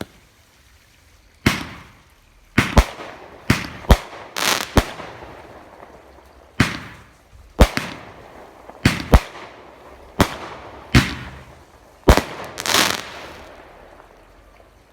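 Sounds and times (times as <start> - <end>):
fireworks crackle: 0.0 - 14.9
fireworks bangs: 1.4 - 13.8.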